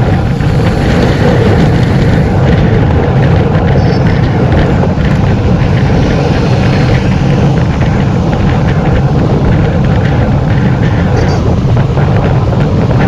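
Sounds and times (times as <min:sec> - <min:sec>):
bicycle tyres on asphalt: 0:00.0 - 0:13.0
wind buffeting microphone: 0:00.0 - 0:13.0.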